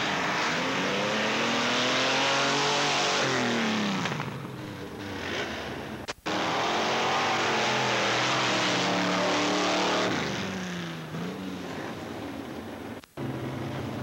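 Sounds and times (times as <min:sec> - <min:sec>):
race vehicle engine running hard: 0:00.0 - 0:14.0.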